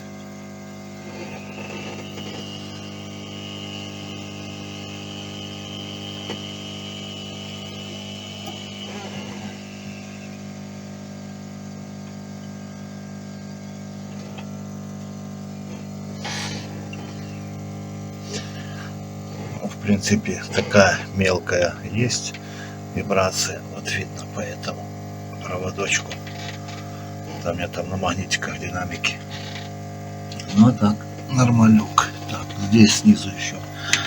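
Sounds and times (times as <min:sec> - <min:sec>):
air compressor humming: 0:00.0 - 0:34.0.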